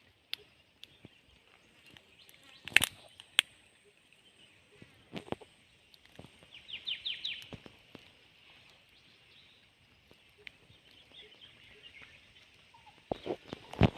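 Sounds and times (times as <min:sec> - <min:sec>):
bird chirping: 0:00.3 - 0:07.6, 0:08.4 - 0:13.9.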